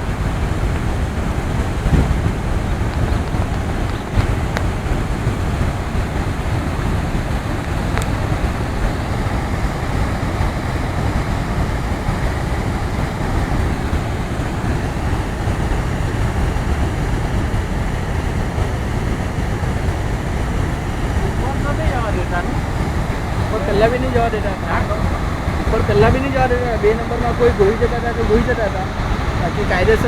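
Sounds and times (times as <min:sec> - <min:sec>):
rushing floodwater: 0:00.0 - 0:30.0
wind on microphone: 0:00.0 - 0:30.0.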